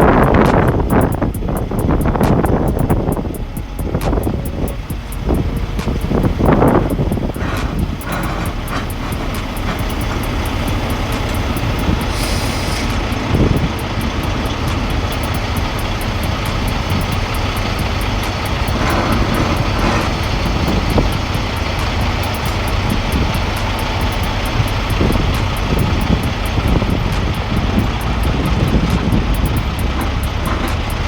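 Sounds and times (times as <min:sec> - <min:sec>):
fast regular ticking: 0:00.0 - 0:31.0
large engine humming: 0:00.0 - 0:31.0.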